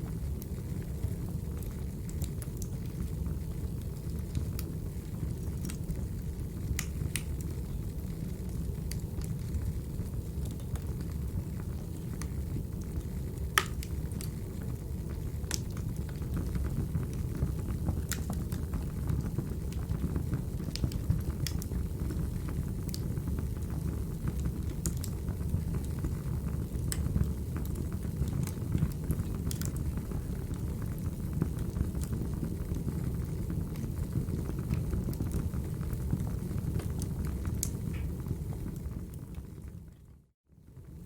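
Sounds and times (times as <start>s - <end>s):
fire popping and snapping: 0.0s - 40.0s
wood fire rumbling: 0.0s - 41.0s.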